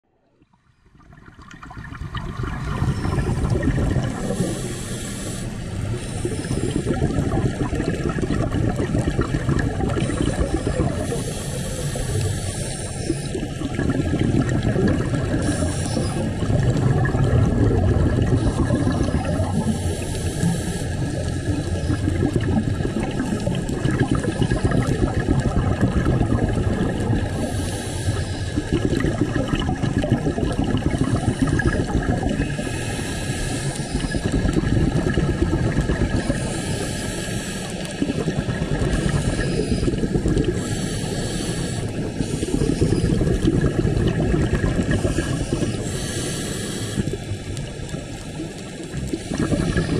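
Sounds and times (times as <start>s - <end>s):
muffled underwater water rumble: 0.0s - 49.9s.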